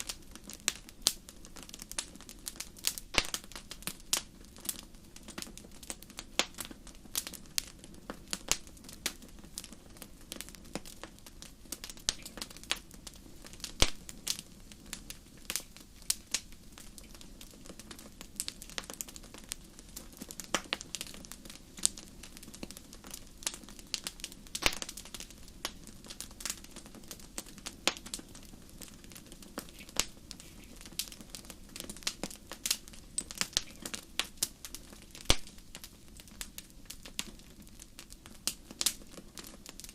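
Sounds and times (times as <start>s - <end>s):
fire crackling and popping: 0.0s - 39.9s
flames low background: 0.0s - 39.9s.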